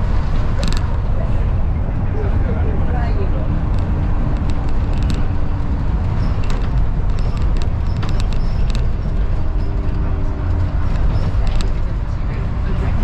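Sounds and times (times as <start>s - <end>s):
body clicks and rattles: 0.0s - 1.3s, 2.9s - 13.0s
bus engine and road drone: 0.0s - 13.0s.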